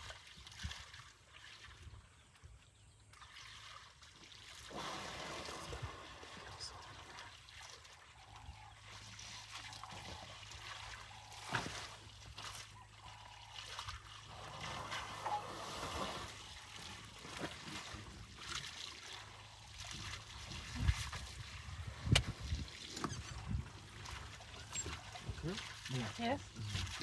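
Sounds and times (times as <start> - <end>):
elephant trunk slapping water: 0.0 - 2.0, 3.1 - 27.0
water trickling and splashing: 0.0 - 27.0.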